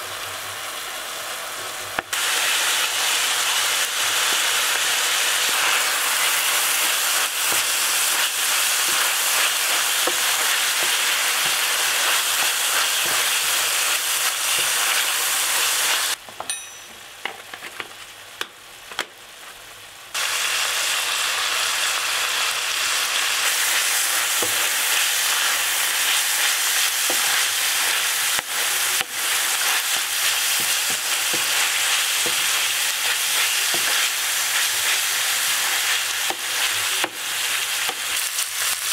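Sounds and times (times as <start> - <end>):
meat sizzling in a frying pan: 0.0 - 16.2, 20.1 - 38.9.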